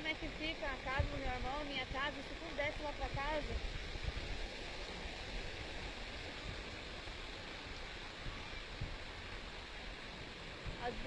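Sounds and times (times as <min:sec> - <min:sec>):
water rushing down dirt road: 0:00.0 - 0:11.0.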